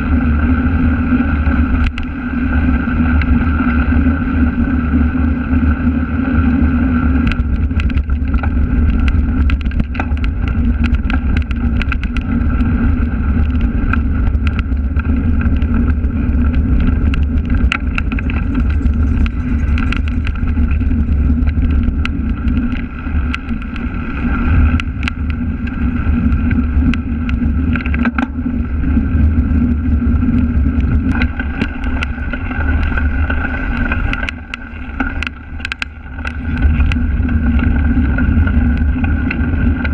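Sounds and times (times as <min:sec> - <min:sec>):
bike rattling over rough ground: 0:00.0 - 0:39.9
wind on microphone: 0:00.0 - 0:39.9
bike clicks and knocks: 0:07.1 - 0:39.9.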